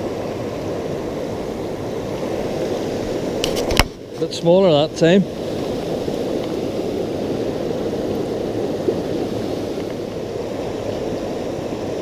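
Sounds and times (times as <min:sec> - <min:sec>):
river water rushing over rapids: 0:00.0 - 0:12.0.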